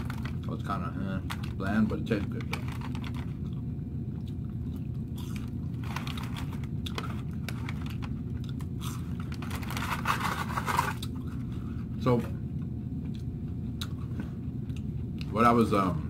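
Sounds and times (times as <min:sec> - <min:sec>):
steady low hum: 0:00.0 - 0:16.0
chewing and crunching: 0:01.2 - 0:11.9, 0:12.5 - 0:15.4.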